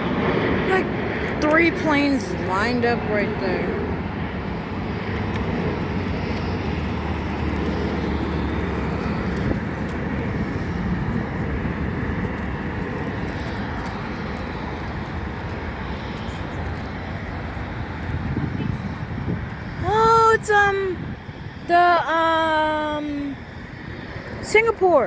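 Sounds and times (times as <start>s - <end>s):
jet airliner engines running: 0.0s - 25.0s.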